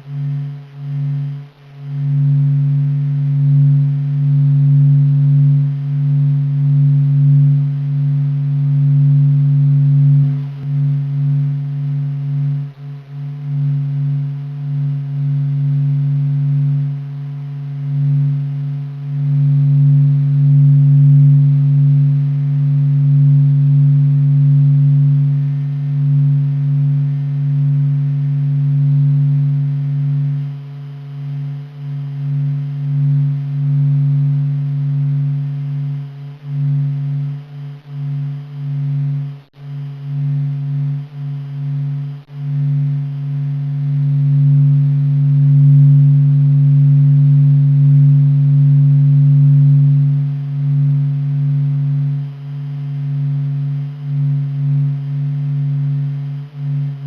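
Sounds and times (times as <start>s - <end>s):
low drone hum: 0.0s - 57.0s.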